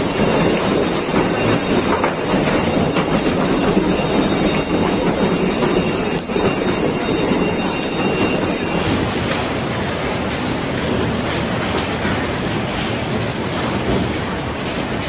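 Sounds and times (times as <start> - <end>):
hail and rain pelting down: 0.0 - 15.0.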